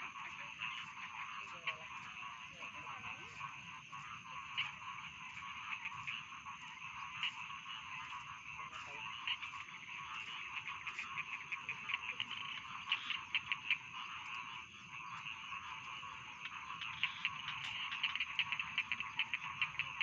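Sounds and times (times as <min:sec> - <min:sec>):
frogs croaking in chorus: 0:00.0 - 0:20.0.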